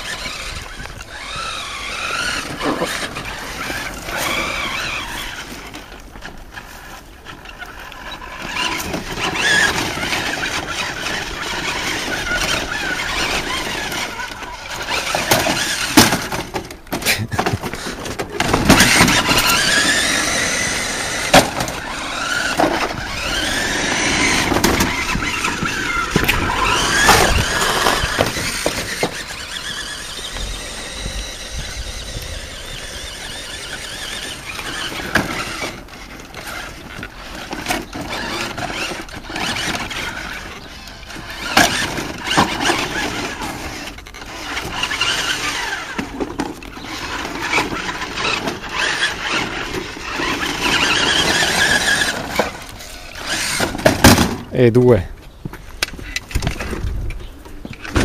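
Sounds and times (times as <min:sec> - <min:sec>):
toy truck electric motor whining: 0:00.0 - 0:54.4.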